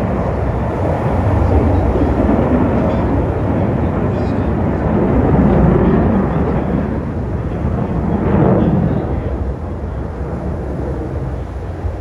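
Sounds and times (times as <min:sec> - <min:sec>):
aircraft passing overhead: 0:00.0 - 0:12.0.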